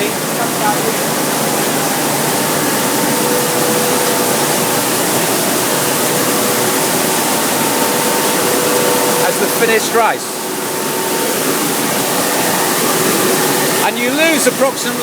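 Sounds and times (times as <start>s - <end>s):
faint steady hum: 0.0s - 15.0s
rice milling machinery: 0.0s - 15.0s.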